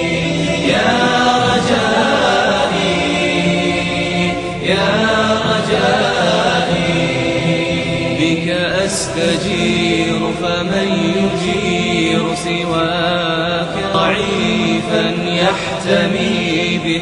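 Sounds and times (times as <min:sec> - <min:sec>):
voices chanting in harmony: 0:00.0 - 0:17.0.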